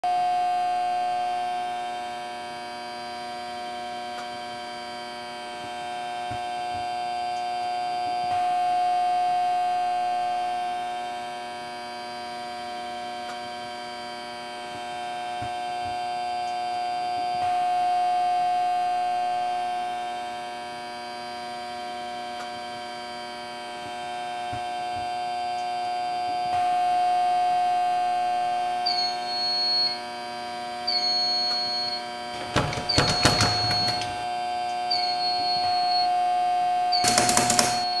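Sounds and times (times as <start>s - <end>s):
eerie electronic drone: 0.1s - 38.0s.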